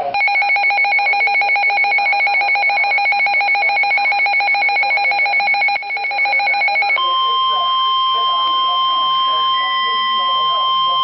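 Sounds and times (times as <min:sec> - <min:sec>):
weather radio alert alarm: 0:00.1 - 0:11.0.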